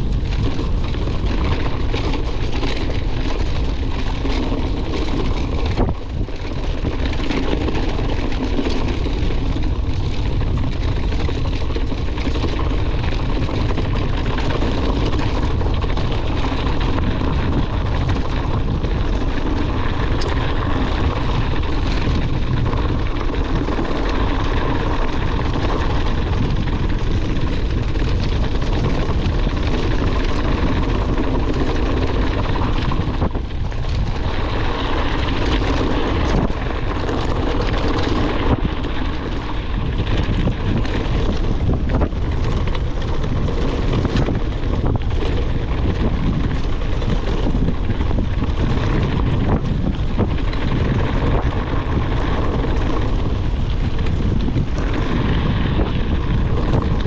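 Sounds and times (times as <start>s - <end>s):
bike rumbling and rattling on trail: 0.0s - 57.0s
wind on microphone: 0.0s - 57.0s.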